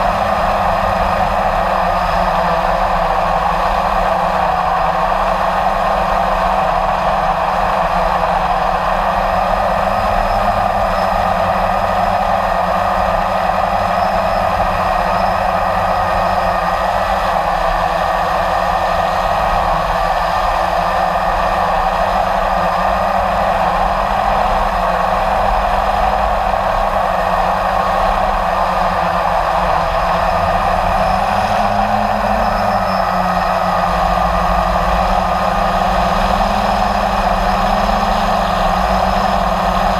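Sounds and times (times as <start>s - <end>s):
quadcopter propellers whirring: 0.0s - 39.9s.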